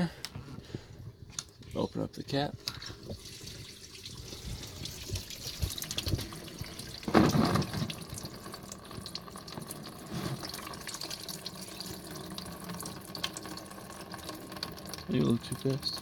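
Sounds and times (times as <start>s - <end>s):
coolant pouring into a bucket: 2.8s - 16.0s.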